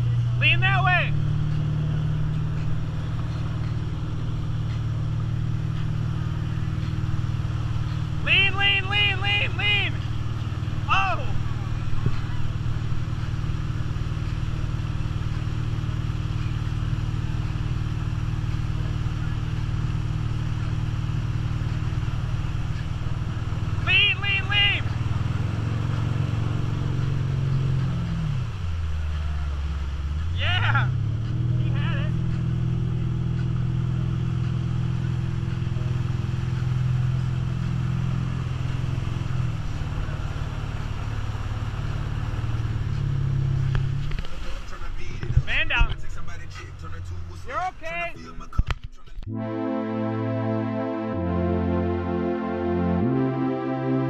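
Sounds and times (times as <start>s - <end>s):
boat engine droning: 0.0s - 48.4s, 49.1s - 54.0s.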